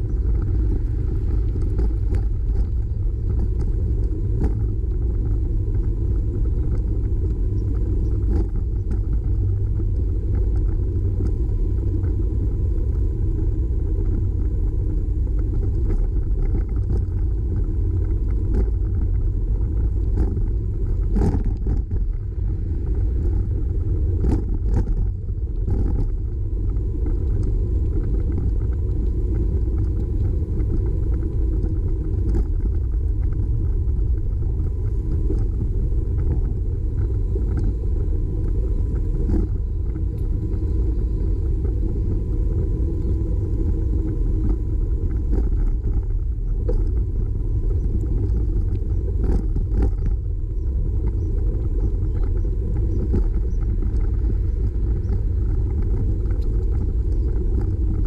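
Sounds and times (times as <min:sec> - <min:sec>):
bicycle tyre and road noise: 0:00.0 - 0:58.0
wind buffeting microphone: 0:00.0 - 0:58.0.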